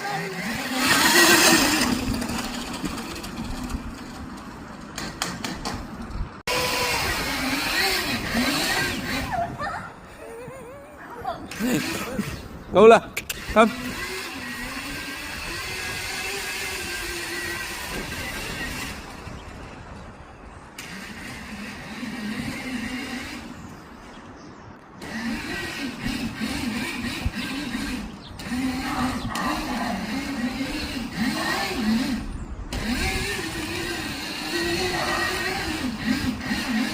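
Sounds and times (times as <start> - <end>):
electric dirt bike motor whining: 0.0 - 36.9.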